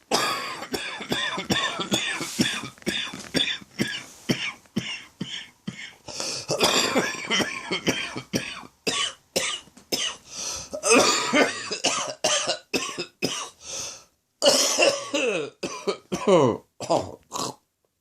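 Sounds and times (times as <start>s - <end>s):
person coughing: 0.1s - 10.2s, 10.8s - 13.6s, 14.4s - 17.6s.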